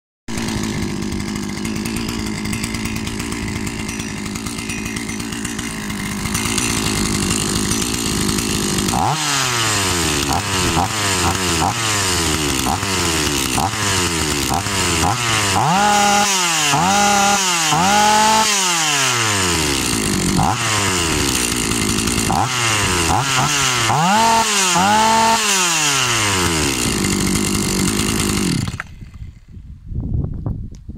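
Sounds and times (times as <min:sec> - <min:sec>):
chainsaw engine idling and revving: 0:00.3 - 0:29.5.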